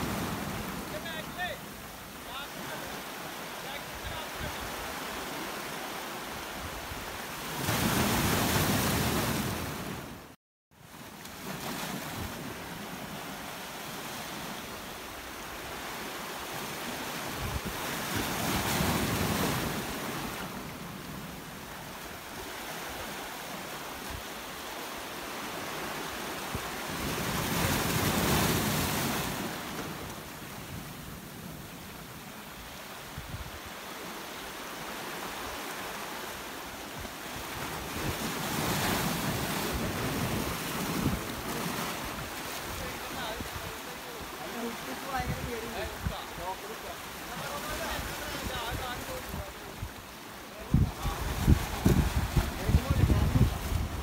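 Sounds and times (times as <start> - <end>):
waves breaking against seawall: 0.0 - 10.0, 15.6 - 30.8, 33.8 - 49.8, 50.4 - 54.0
steady wash of surf: 0.0 - 54.0.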